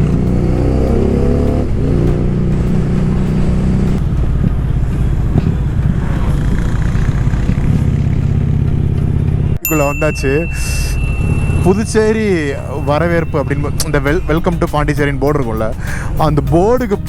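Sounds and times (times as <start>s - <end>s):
motorcycle engine running: 0.0s - 9.6s, 11.0s - 17.0s.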